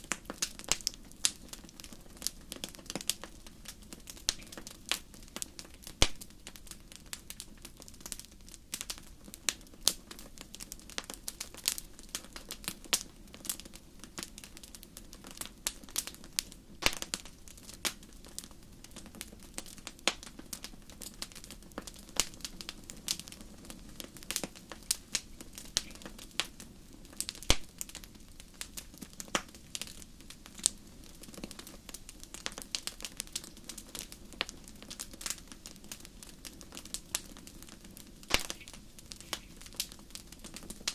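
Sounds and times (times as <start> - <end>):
burning wood popping and snapping: 0.0 - 40.9
low rush of fire: 0.0 - 40.9.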